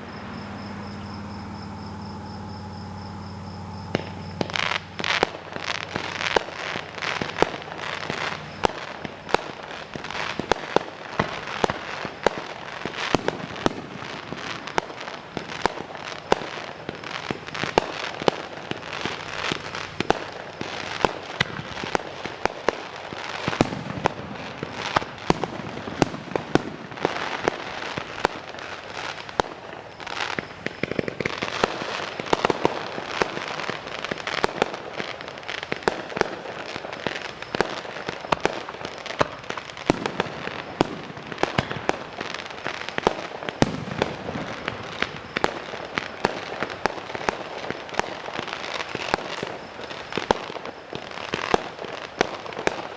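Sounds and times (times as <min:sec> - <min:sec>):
fireworks bangs and pops: 0:00.0 - 0:52.9
fireworks crackling: 0:00.0 - 0:52.9.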